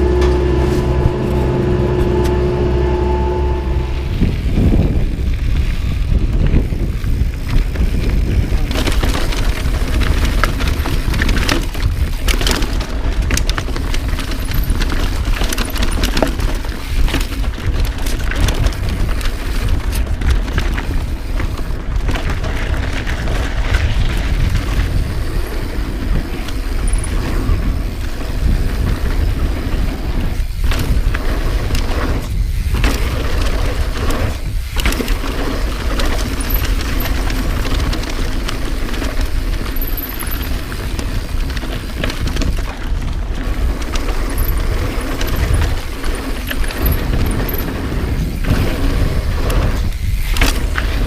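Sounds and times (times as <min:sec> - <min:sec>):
wind rush: 0:00.0 - 0:15.4, 0:16.5 - 0:39.8, 0:40.4 - 0:51.0
bike tyre roar on dirt: 0:00.0 - 0:51.0
bike knocks and rattles: 0:04.3 - 0:51.0.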